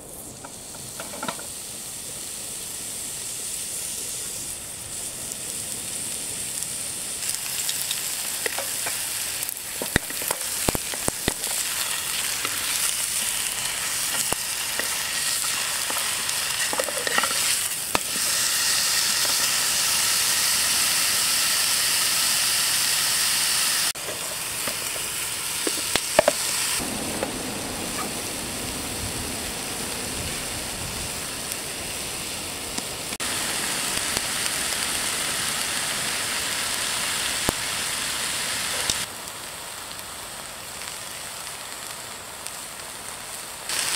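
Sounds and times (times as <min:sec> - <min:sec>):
steak sizzling in a frying pan: 0:00.1 - 0:26.8, 0:30.0 - 0:43.9.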